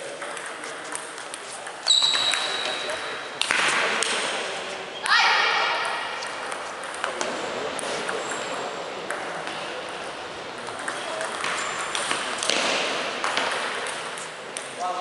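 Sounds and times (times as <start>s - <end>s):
background hall noise: 0.0s - 15.0s.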